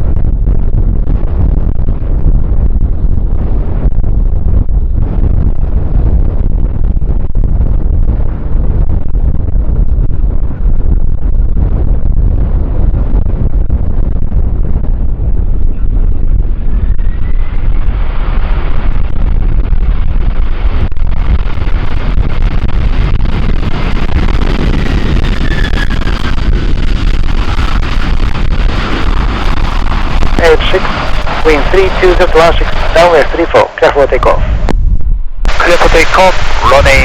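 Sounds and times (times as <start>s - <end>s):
jet engine whine: 0.0s - 37.0s
wind buffeting microphone: 0.0s - 37.0s.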